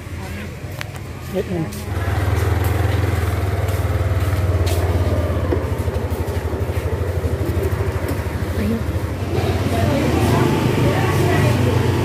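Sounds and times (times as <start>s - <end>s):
motorcycle engine idling: 1.9s - 12.0s.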